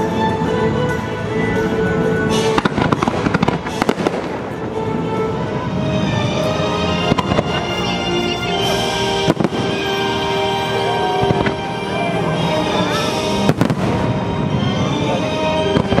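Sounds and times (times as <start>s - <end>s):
steady music: 0.0s - 16.0s
fireworks bursting with bangs: 2.2s - 16.0s.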